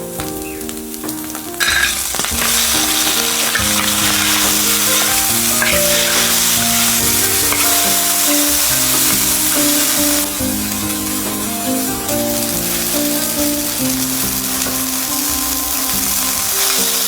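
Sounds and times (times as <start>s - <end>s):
background music: 0.0s - 17.0s
food sizzling in hot oil: 0.0s - 17.0s.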